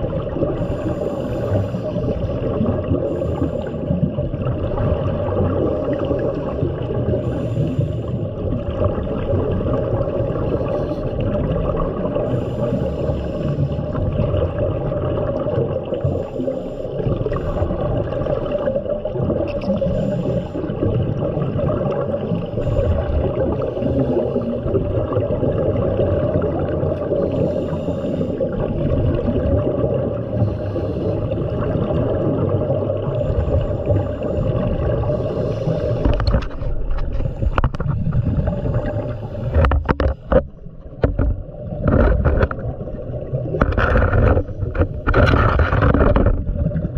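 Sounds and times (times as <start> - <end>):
muffled underwater rumble: 0.0 - 46.9
scuba regulator exhaust bubbles: 0.0 - 46.9.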